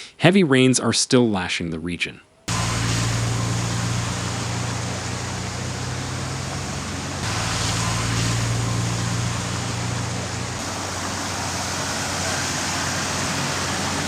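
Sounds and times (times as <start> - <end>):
low steady hum: 2.5 - 14.0
rushing water: 2.5 - 14.0.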